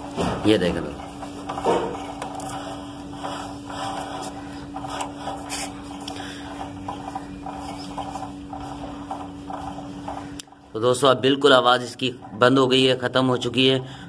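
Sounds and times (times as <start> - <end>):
wheel spinning in drum brake: 0.0 - 12.8.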